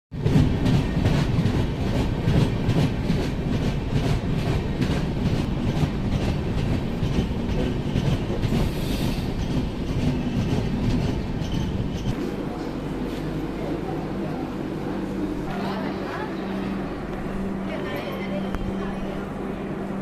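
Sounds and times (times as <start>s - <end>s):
train wheel and rail rumble: 0.1s - 20.0s.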